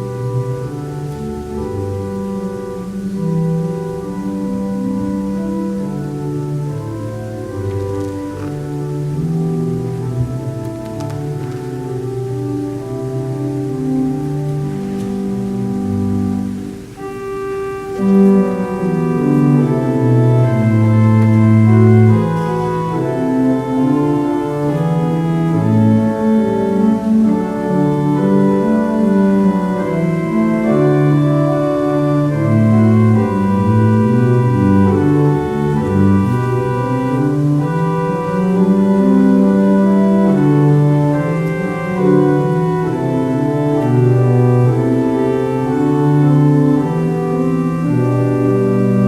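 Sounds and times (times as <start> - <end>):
organ playing slow chords: 0.0 - 49.0.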